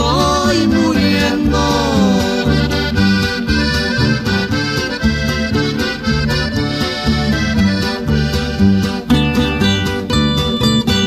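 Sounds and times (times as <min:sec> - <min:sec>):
accordion playing: 0:00.0 - 0:11.0
bass and guitar accompaniment: 0:00.0 - 0:11.0.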